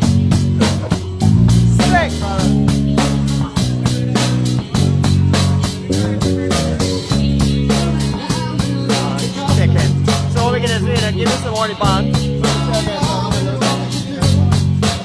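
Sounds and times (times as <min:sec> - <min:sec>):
bass guitar: 0:00.0 - 0:15.0
drum kit with cymbal beat: 0:00.0 - 0:15.0
electric guitar chords: 0:00.0 - 0:15.0.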